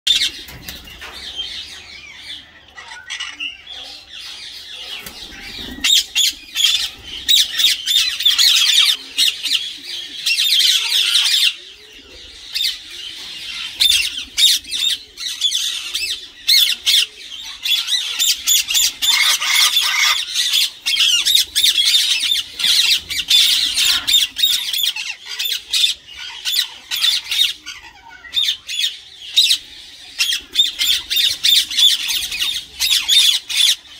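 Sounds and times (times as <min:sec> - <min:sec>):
parakeets squawking: 0:02.2 - 0:11.6, 0:12.4 - 0:33.9.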